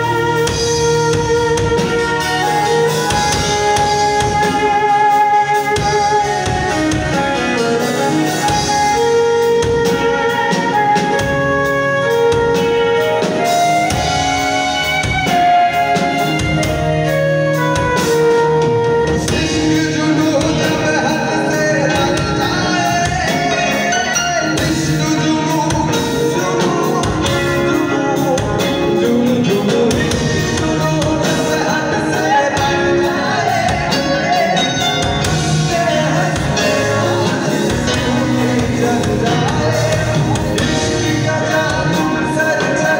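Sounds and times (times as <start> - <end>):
live band playing: 0.0 - 42.9
person singing: 0.0 - 42.9.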